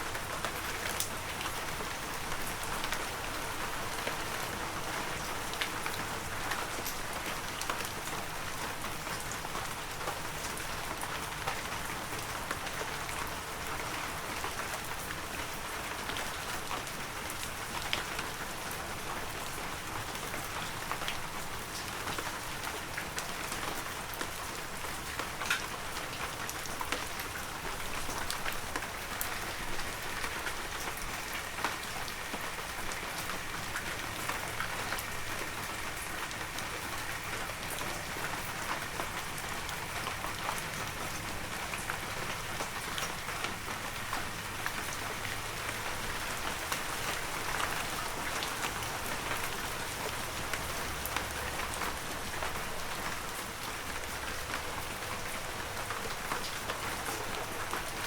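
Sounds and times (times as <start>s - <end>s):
heavy rain falling: 0.0s - 58.0s
raindrops pattering on surfaces: 0.0s - 58.0s.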